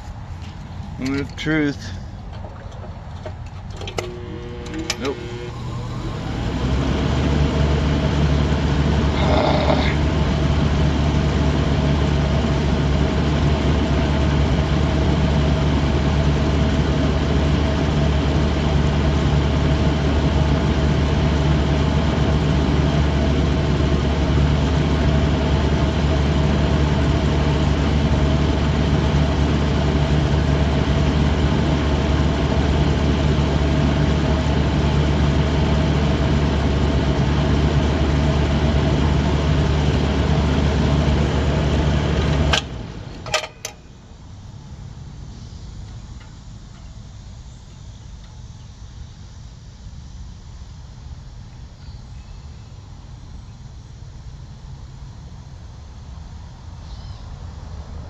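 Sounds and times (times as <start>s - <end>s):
air conditioner unit humming: 0.0s - 58.0s.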